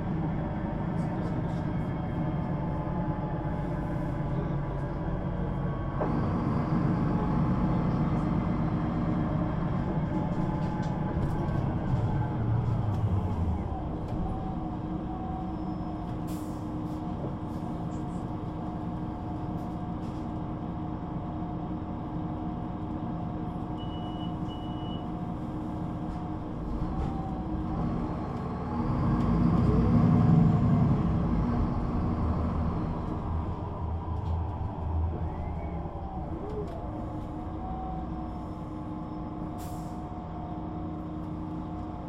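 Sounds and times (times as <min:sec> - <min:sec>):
bus engine humming: 0:00.0 - 0:42.0.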